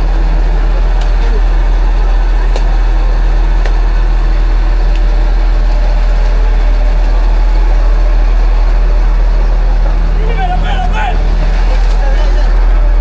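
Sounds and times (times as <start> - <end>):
fire truck engine idling: 0.0 - 13.0.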